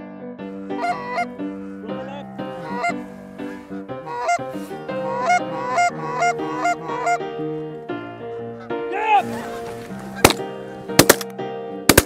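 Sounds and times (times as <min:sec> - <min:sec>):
piano music: 0:00.0 - 0:12.0
geese honking: 0:00.6 - 0:10.9.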